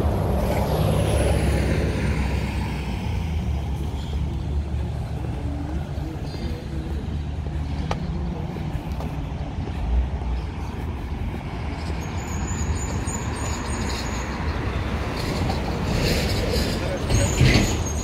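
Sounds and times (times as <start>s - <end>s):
passing cars rumbling: 0.0s - 18.0s.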